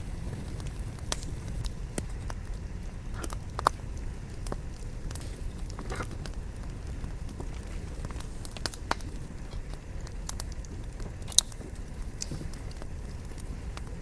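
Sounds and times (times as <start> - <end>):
campfire crackling and popping: 0.0 - 14.0
low steady rumble: 0.0 - 14.0.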